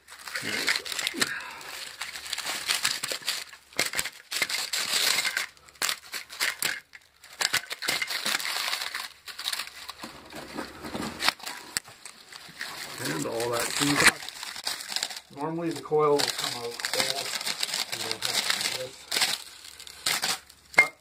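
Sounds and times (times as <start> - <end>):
paper insulation crinkling: 0.0 - 20.8.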